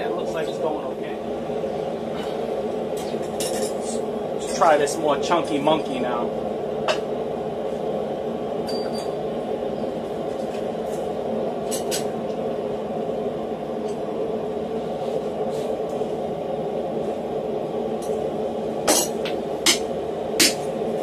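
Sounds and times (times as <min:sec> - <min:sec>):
forge running: 0:00.0 - 0:21.0.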